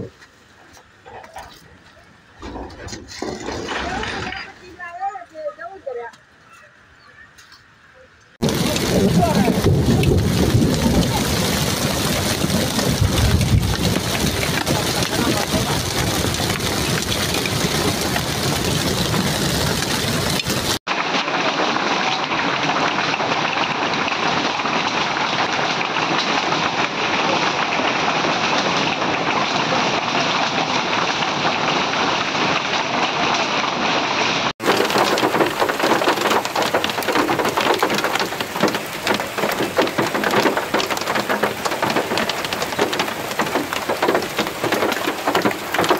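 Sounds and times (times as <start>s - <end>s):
hail and rain clattering: 2.4s - 5.8s, 8.4s - 45.9s.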